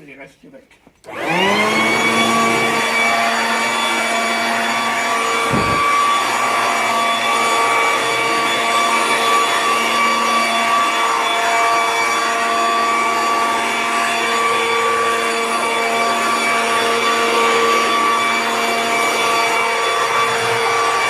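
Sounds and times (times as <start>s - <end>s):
electric leaf blower whining: 1.0s - 21.0s.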